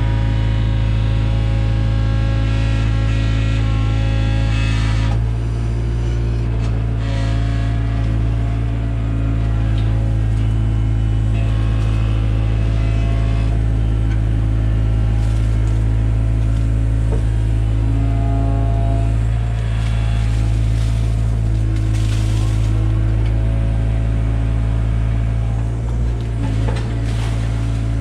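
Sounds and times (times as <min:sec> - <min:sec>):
excavator diesel engine droning: 0:00.0 - 0:28.0.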